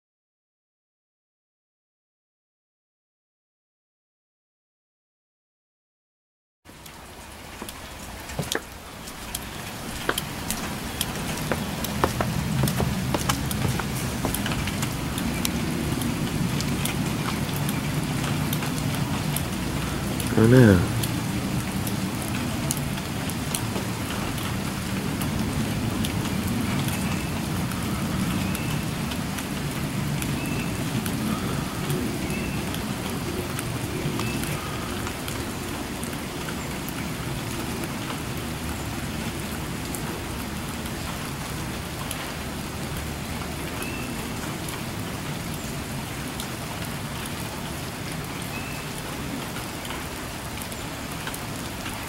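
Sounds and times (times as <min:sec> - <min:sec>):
steady rain falling: 0:06.7 - 0:52.0.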